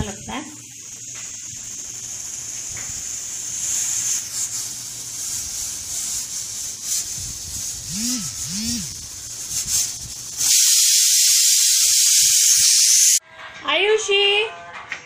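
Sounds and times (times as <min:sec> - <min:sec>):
pressure cooker hissing steam: 0:00.0 - 0:13.2.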